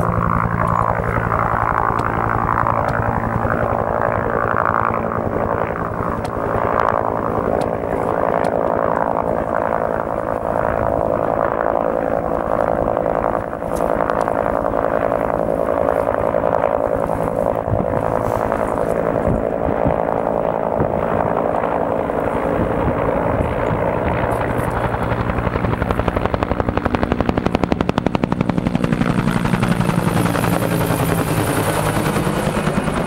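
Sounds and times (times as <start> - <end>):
helicopter engine tones: 0.0 - 33.0
helicopter rotor chop: 0.0 - 33.0.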